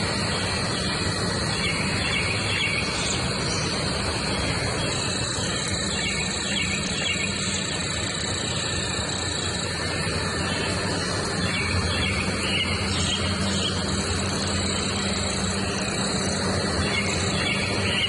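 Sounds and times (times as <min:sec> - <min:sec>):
high insect-like drone: 0:00.0 - 0:18.0
low hum: 0:00.0 - 0:18.0.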